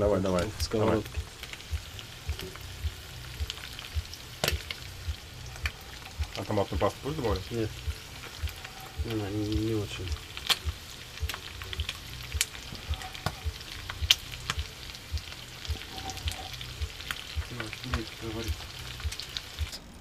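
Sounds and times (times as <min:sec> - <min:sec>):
vegetables sizzling in a frying pan: 0:00.0 - 0:19.8.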